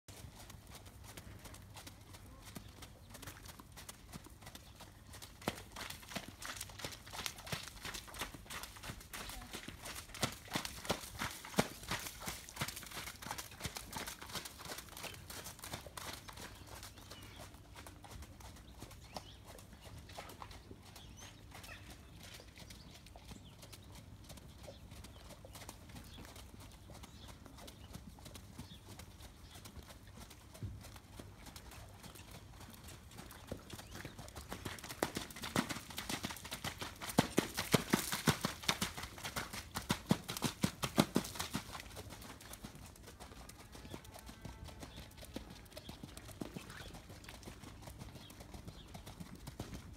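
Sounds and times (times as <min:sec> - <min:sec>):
hoofbeats on muddy ground: 0:00.1 - 0:49.9.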